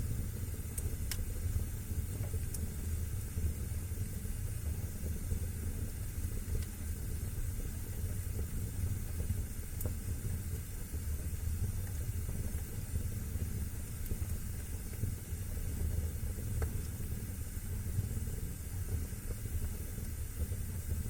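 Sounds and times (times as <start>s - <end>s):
fire crackling: 0.0s - 21.0s
fire rumbling and hissing: 0.0s - 21.0s.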